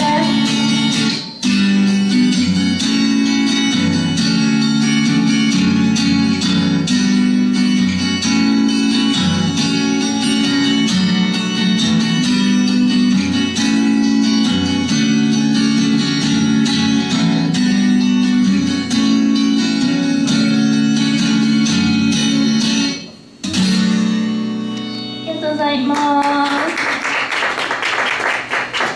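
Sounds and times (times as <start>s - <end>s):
acoustic guitar strummed: 0.0s - 26.5s.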